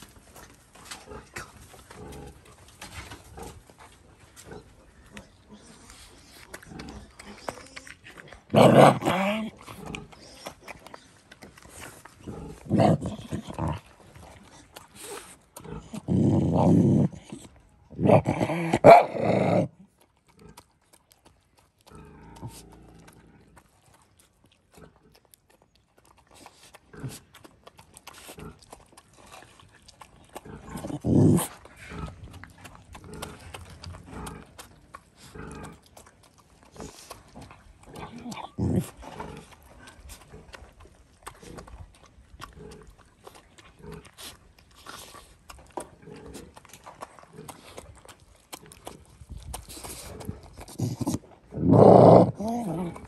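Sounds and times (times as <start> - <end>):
dog chewing and smacking: 0.0 - 53.0
low dog sounds: 4.9 - 53.0.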